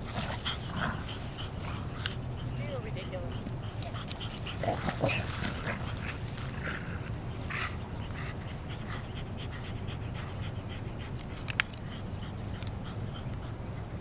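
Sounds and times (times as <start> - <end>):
dog panting: 0.0 - 14.0
steady low rumble: 0.0 - 14.0.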